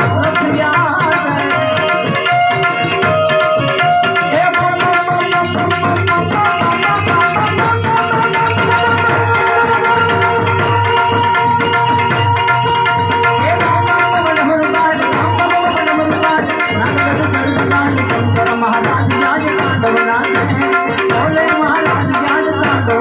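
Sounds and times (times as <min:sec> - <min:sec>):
hand drum beat: 0:00.0 - 0:23.0.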